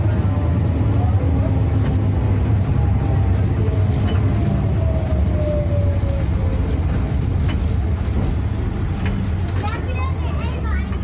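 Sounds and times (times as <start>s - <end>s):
tram rumbling: 0.0s - 11.0s
tram whine: 0.0s - 11.0s.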